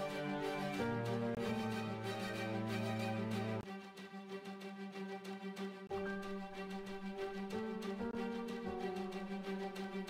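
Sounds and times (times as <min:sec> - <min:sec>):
background music chords: 0:00.0 - 0:10.0.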